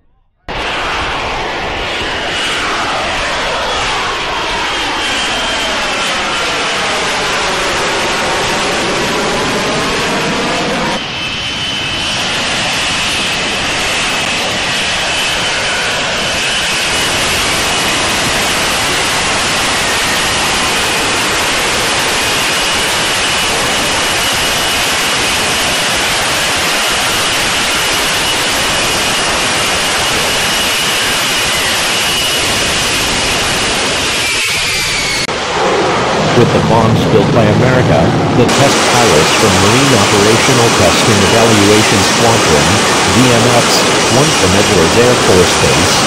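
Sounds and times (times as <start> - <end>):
jet engine running: 0.5 - 46.0.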